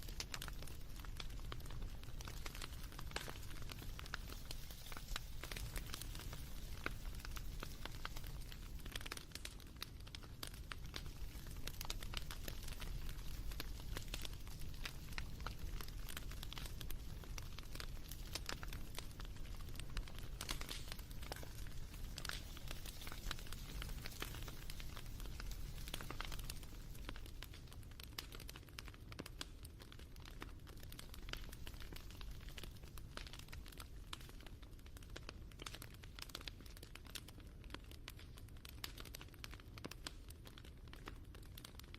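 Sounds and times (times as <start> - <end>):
sharp pops and snaps: 0.0 - 41.9
wood fire crackling: 0.0 - 41.9.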